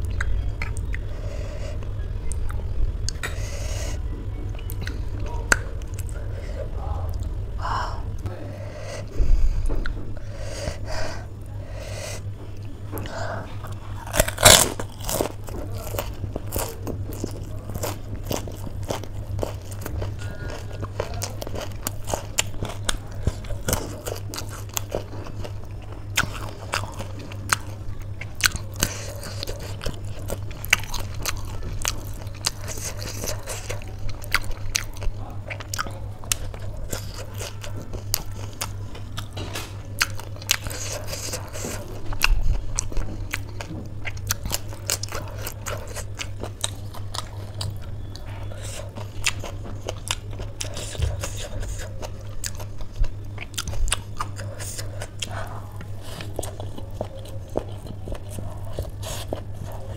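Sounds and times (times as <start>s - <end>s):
chewing and crunching crispy food: 0.0s - 8.4s, 9.1s - 59.9s
steady low hum: 0.0s - 59.9s.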